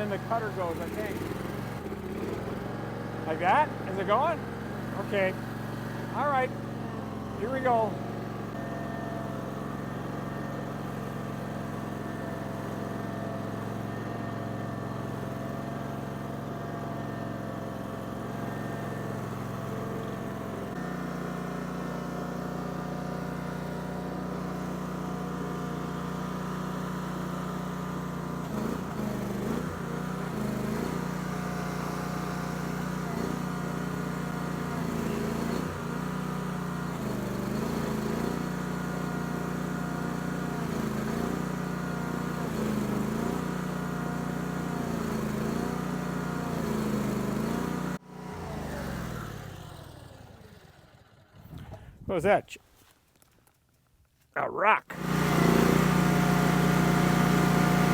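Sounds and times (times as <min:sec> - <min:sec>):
stump grinder engine running: 0:00.0 - 0:51.9, 0:54.9 - 0:57.9.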